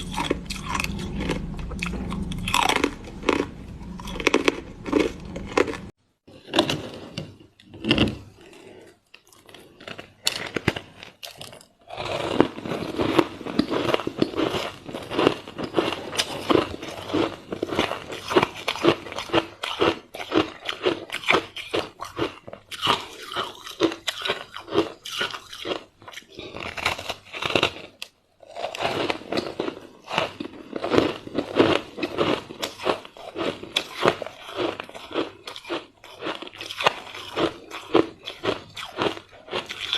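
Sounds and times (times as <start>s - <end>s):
chewing ice crunching: 0.0s - 6.0s, 8.4s - 39.9s.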